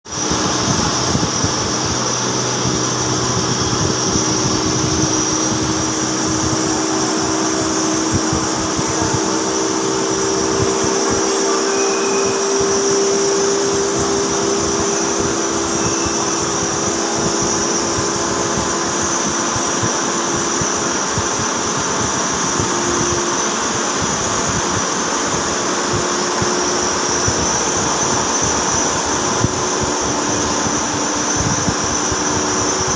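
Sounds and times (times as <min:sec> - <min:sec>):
lathe mechanical whir: 0:00.1 - 0:32.9.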